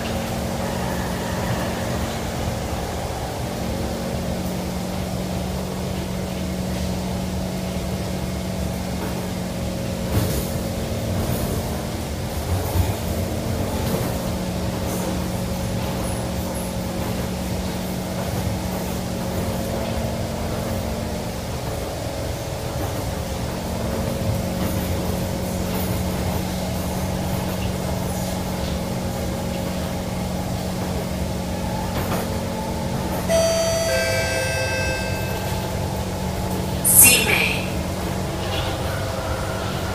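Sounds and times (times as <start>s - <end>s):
train wheels rumbling on rail: 0.0s - 33.5s, 37.8s - 39.9s.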